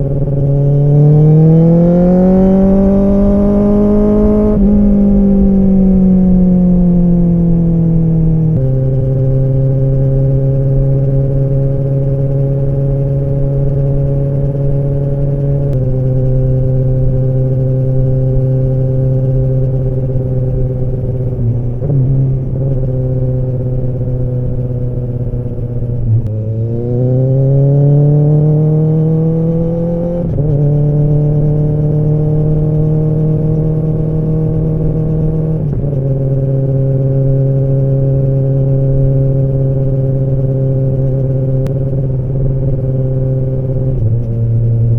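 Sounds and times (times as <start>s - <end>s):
motorcycle engine and exhaust revving: 0.0s - 44.9s.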